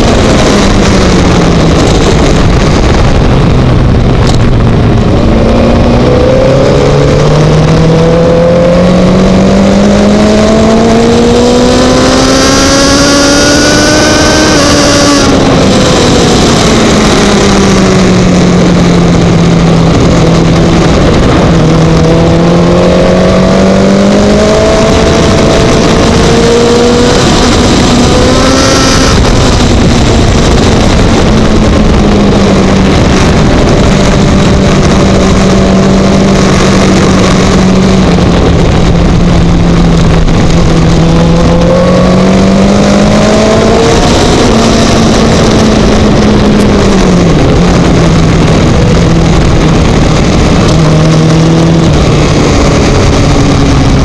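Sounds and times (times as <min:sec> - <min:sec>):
racing motorcycle engine revving: 0:00.0 - 0:54.0
wind rush: 0:00.0 - 0:54.0.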